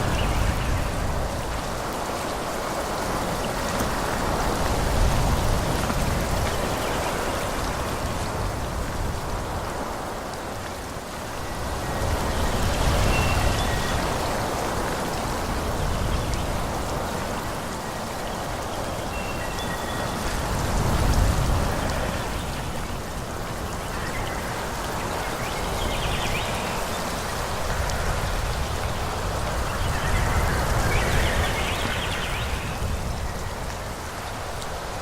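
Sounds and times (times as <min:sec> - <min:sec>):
wind blowing through trees: 0:00.0 - 0:35.0.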